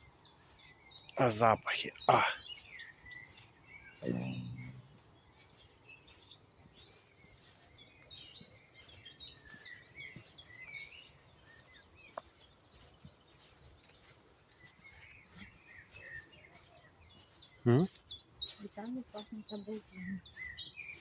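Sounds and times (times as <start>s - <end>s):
small birds chirping and trilling: 0.0s - 21.0s.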